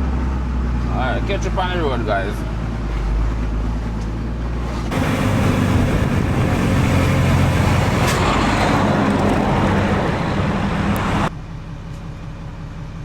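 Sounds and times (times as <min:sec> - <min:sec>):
road and tyre noise: 0:00.0 - 0:13.0
truck engine running: 0:00.0 - 0:13.0.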